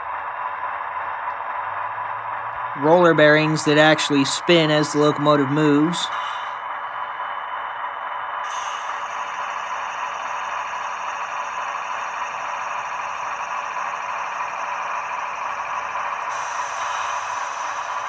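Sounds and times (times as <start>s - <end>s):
tinny diesel engine sound: 0.0s - 18.0s.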